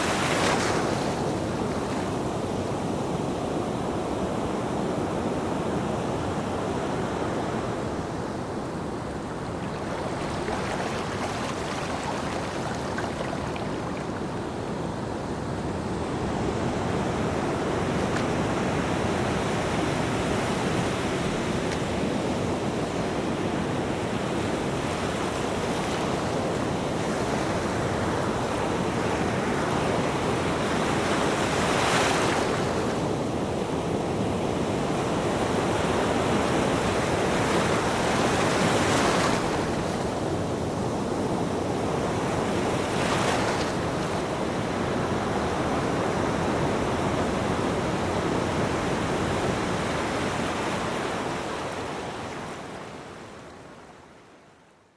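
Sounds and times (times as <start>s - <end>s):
ocean waves breaking on a beach: 0.0s - 54.9s.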